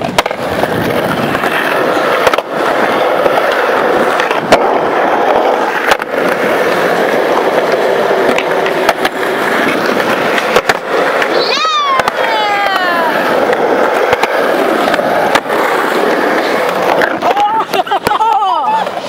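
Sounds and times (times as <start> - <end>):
skateboard clacking: 0.0 - 19.0
skateboard wheels rolling on concrete: 0.0 - 19.0.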